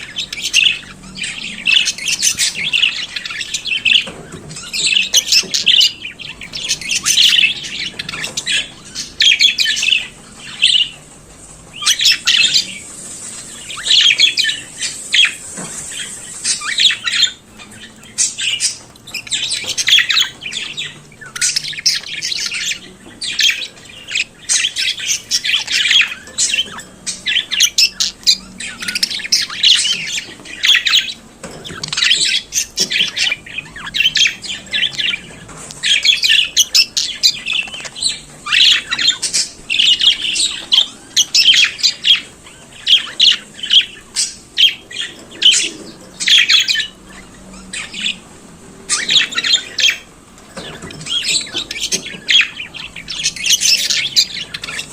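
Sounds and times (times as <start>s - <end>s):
budgerigar warbling and chattering: 0.0s - 11.1s, 11.7s - 54.9s.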